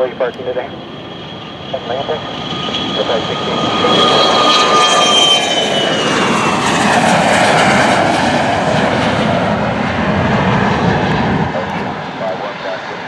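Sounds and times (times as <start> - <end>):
jet airplane passing: 0.0 - 13.0.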